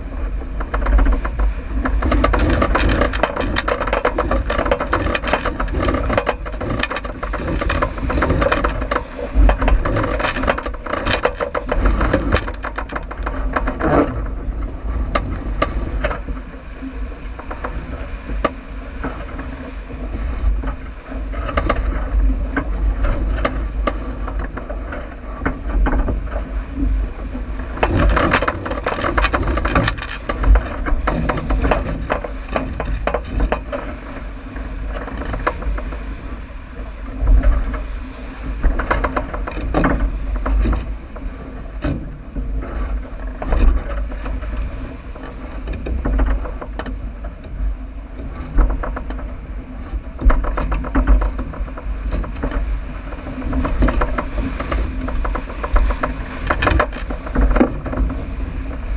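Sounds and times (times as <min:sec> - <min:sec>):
boat knocks and rattles: 0:00.0 - 0:58.9
water rushing along hull: 0:00.0 - 0:58.9
wind buffeting microphone: 0:00.0 - 0:58.9.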